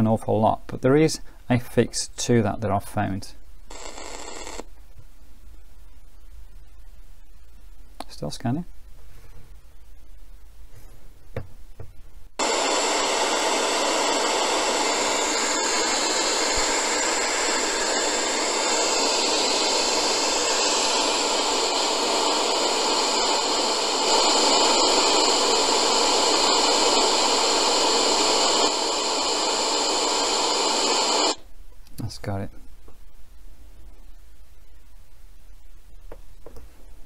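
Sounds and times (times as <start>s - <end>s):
radio static hiss: 0.8s - 10.4s, 12.4s - 32.7s.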